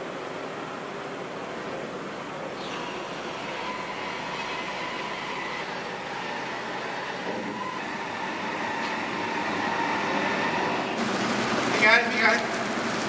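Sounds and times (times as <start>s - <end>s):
deck crane running: 2.0s - 13.0s.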